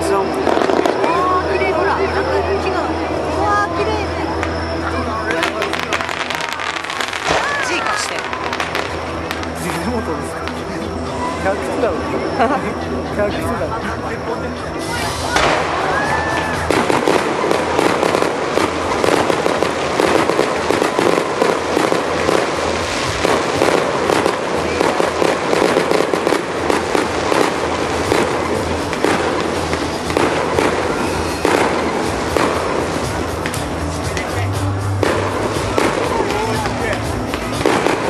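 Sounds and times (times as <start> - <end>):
fireworks bursting and crackling: 0.0 - 38.0.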